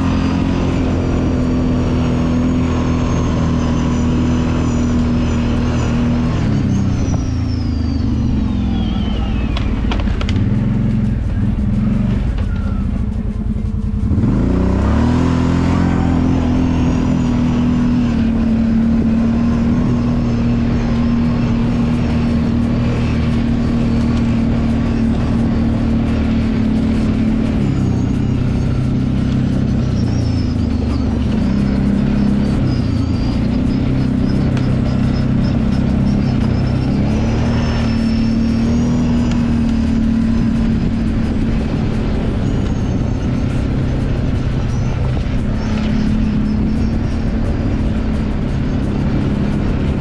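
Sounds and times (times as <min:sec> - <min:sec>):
atv engine running: 0:00.0 - 0:50.0.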